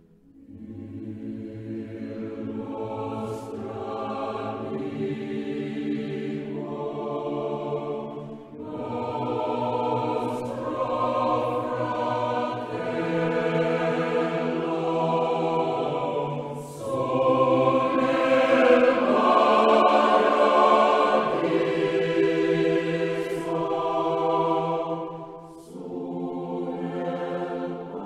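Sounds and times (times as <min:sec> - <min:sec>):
choir singing: 0:00.0 - 0:28.0.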